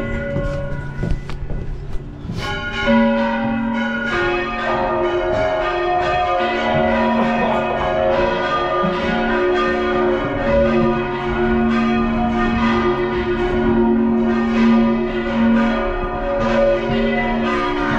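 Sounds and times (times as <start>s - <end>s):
large church bells ringing: 0.0s - 17.9s.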